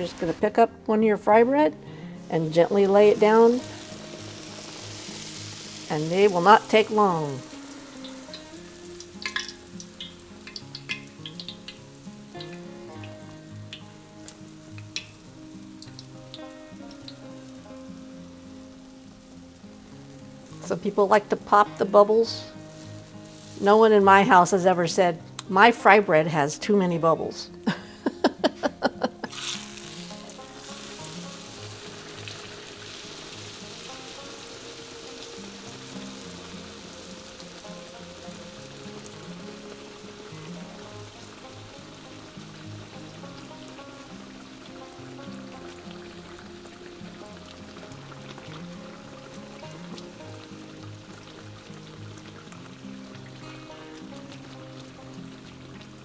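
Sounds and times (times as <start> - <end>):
dough sizzling in oil: 0.0 - 0.5, 1.8 - 25.8, 27.6 - 56.0
quiet background music: 0.0 - 56.0
oil crackling pops: 1.8 - 24.6, 25.2 - 25.6, 28.0 - 56.0.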